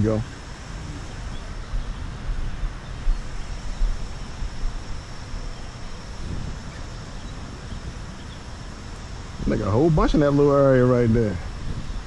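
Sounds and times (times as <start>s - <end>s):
faint high-pitched hum: 0.0s - 12.0s
wind buffeting microphone: 0.0s - 12.0s.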